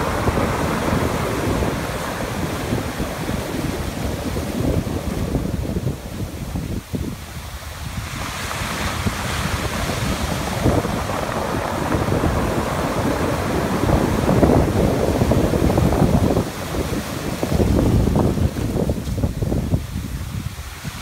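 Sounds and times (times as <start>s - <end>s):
surf breaking on pebble beach: 0.0s - 21.0s
wind buffeting microphone: 0.0s - 21.0s.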